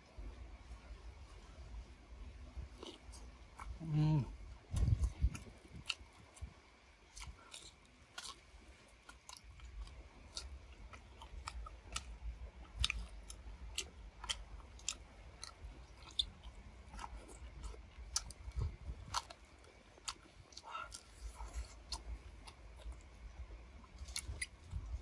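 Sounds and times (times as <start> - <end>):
person chewing with wet smacks: 2.6 - 25.0.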